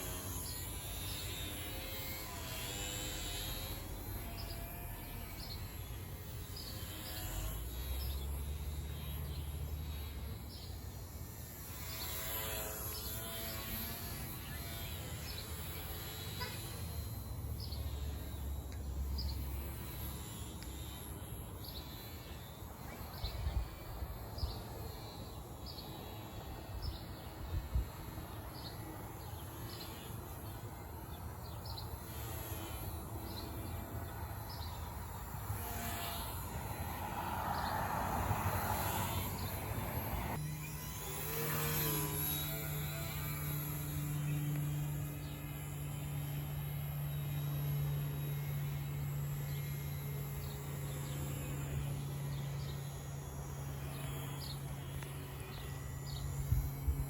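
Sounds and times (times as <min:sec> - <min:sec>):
rc airplane motor whine: 0:00.0 - 0:57.0
steady low hum: 0:00.0 - 0:57.0.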